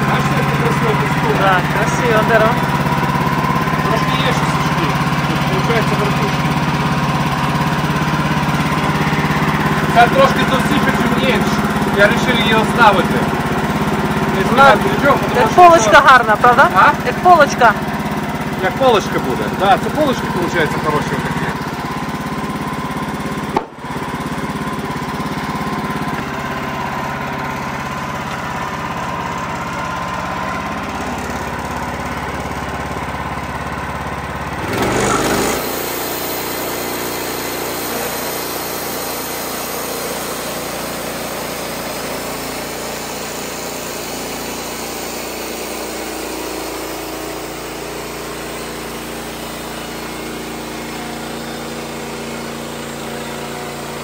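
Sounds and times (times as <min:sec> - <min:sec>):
band sawmill sawing log: 0:00.0 - 0:54.0
engine running: 0:00.0 - 0:54.0.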